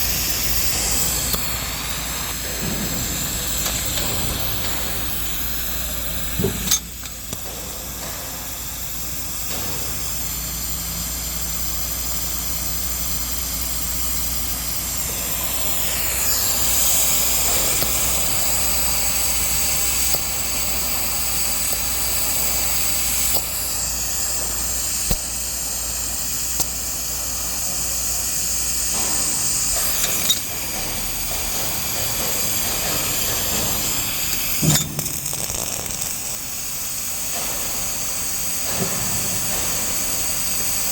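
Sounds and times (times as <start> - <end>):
welding arc hissing: 0.0 - 40.9.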